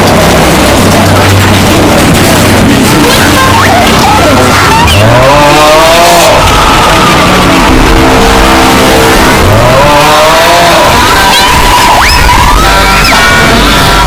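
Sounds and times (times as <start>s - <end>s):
sliding pitched tones: 0.0s - 14.0s.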